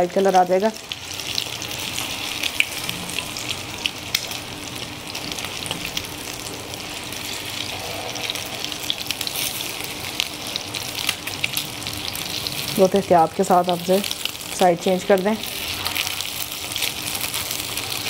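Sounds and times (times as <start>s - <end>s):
cutlets sizzling in oil: 0.0s - 18.0s.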